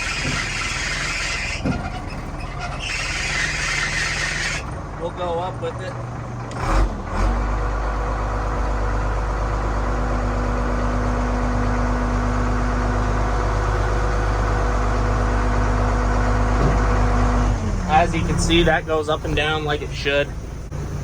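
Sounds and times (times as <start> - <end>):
hydraulic hoist hum: 0.0 - 6.6, 8.2 - 21.0
diesel truck engine running: 0.0 - 21.0.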